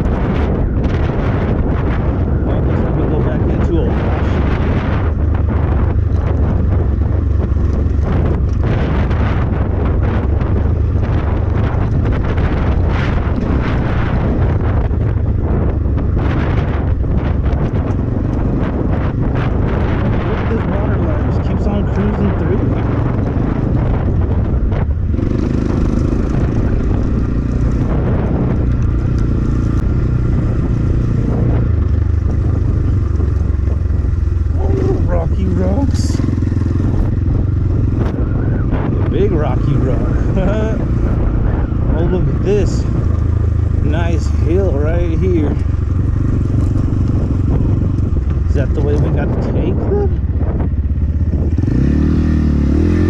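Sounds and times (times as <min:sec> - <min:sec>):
dirt bike engine running: 0:00.0 - 0:53.0
wind buffeting microphone: 0:00.0 - 0:53.0.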